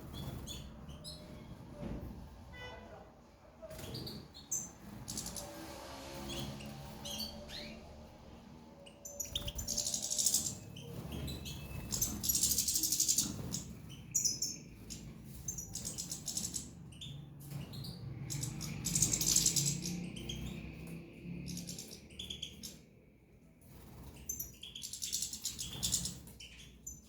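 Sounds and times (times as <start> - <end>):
songbirds trilling and chirping: 0.0 - 27.0.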